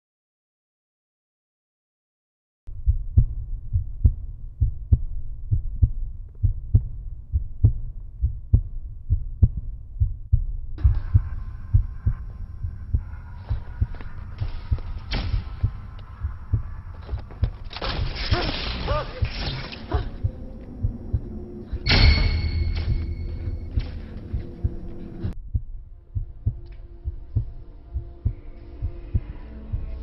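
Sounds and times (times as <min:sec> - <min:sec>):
heartbeat thumps: 0:02.7 - 0:18.3, 0:19.2 - 0:30.0.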